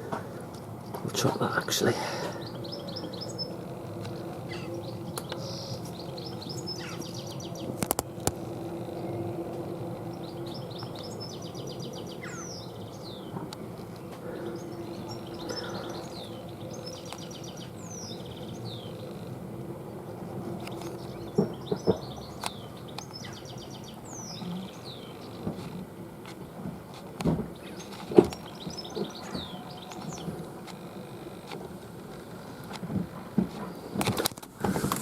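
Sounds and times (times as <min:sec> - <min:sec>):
songbirds chirping and trilling: 0:00.0 - 0:35.0
steady low hum: 0:00.0 - 0:35.0.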